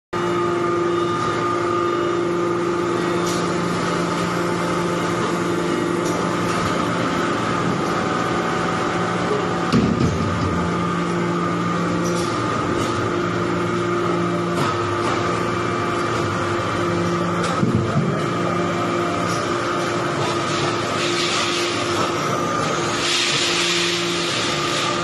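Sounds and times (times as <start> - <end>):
hydraulic press humming: 0.2 - 25.0.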